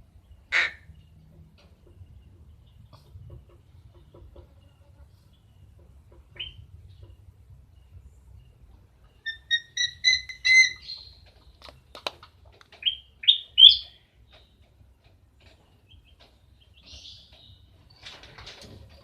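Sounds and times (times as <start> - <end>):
bird chirping: 0.0 - 12.1, 12.7 - 18.2.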